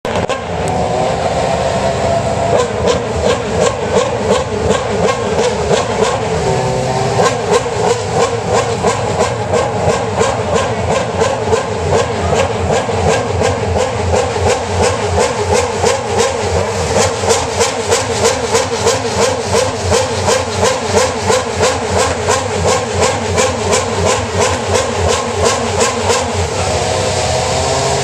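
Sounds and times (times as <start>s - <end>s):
race car engine pulsing: 0.0s - 28.0s.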